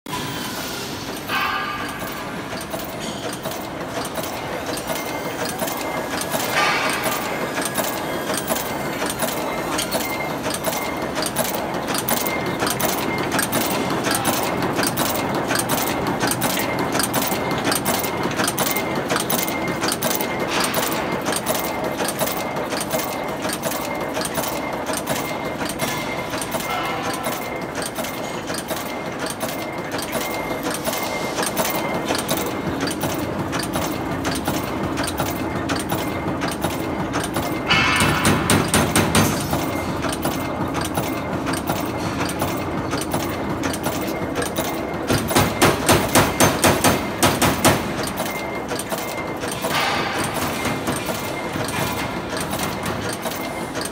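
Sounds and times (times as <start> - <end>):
rivet machine clattering: 1.1 - 53.9.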